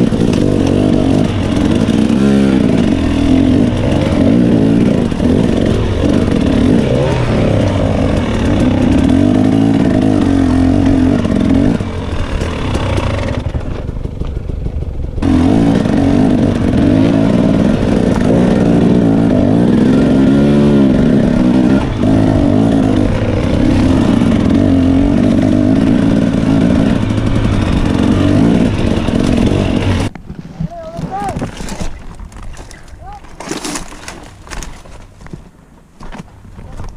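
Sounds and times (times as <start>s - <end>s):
dirt bike engine revving: 0.0s - 30.1s.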